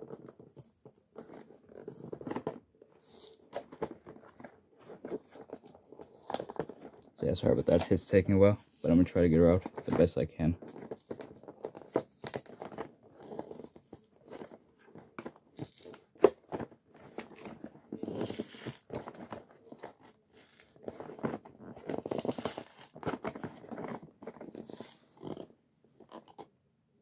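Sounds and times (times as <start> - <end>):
toy packaging crinkling and rustling: 0.0 - 26.5.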